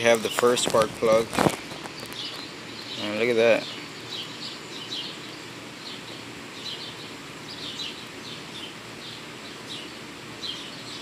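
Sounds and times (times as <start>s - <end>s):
birds chirping: 0.0s - 11.0s
steady background hiss: 0.0s - 11.0s.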